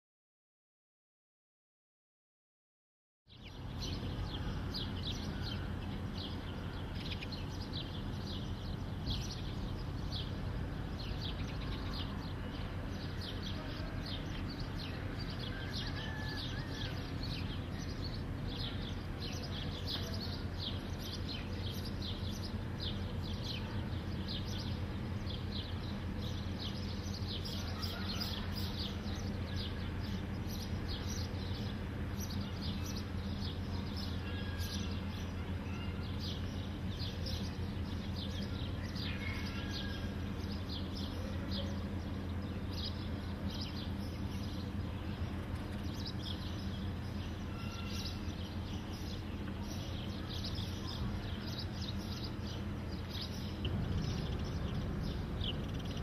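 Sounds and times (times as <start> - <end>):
low background rumble: 3.3 - 56.0
small birds chirping: 3.3 - 56.0.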